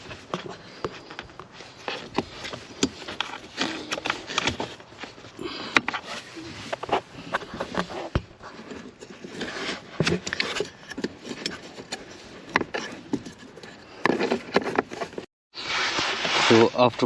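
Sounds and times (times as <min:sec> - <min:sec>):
plastic clicks and scraping: 0:00.0 - 0:15.3.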